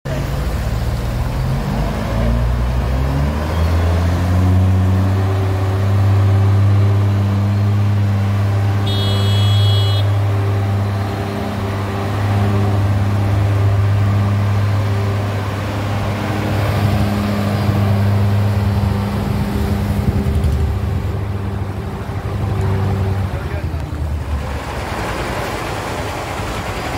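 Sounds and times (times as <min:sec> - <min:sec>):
large engine revving: 0:00.1 - 0:26.9.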